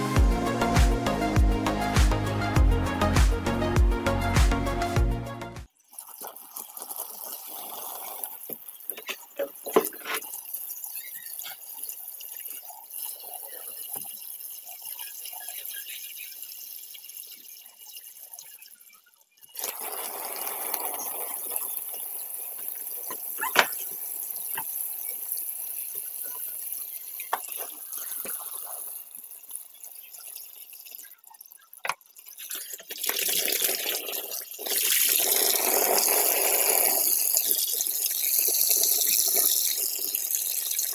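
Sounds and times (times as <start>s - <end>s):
water pouring into paddling pool: 5.7s - 40.9s
water drips: 5.8s - 40.9s.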